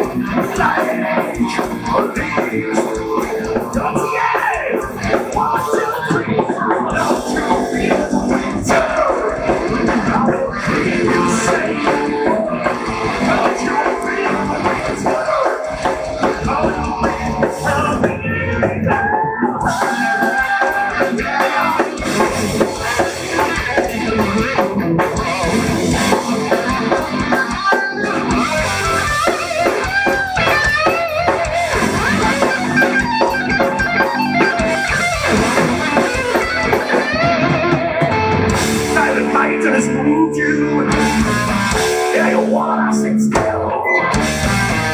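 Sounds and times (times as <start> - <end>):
live rock band playing: 0.0 - 44.9.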